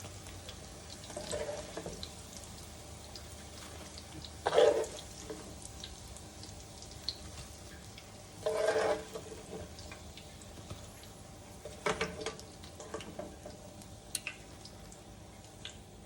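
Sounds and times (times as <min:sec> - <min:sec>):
oil sizzling in a skillet: 0:00.0 - 0:16.0.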